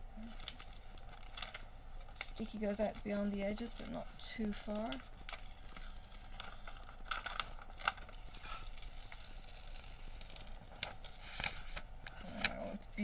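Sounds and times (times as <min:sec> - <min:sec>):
plastic film crinkling: 0:00.1 - 0:13.0.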